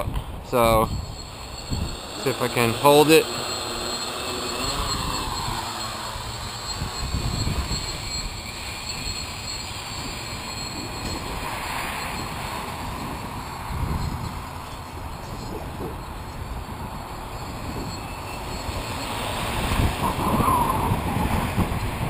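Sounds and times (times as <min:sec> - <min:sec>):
drone motors whirring: 0:00.0 - 0:22.0
wind buffeting microphone: 0:00.0 - 0:22.0.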